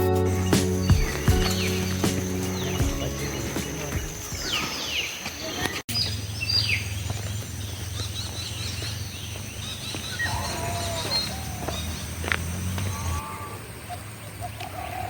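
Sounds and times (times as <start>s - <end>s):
wild birds calling: 0.0s - 15.0s.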